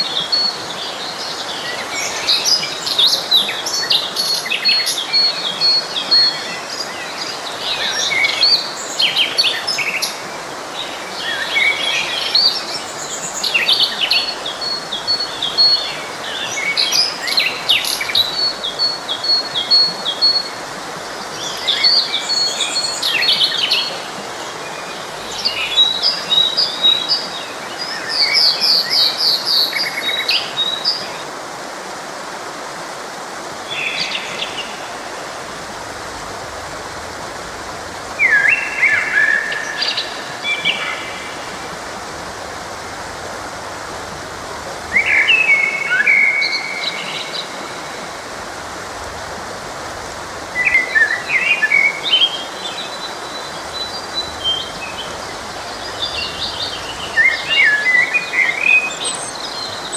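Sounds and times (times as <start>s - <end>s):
songbirds chirping: 0.0s - 59.9s
stream rushing: 0.0s - 59.9s.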